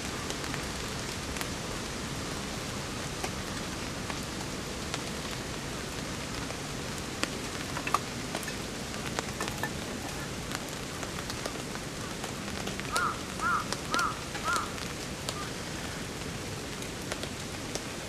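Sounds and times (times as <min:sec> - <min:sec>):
raindrops tapping: 0:00.0 - 0:18.0
steady rain: 0:00.0 - 0:18.0.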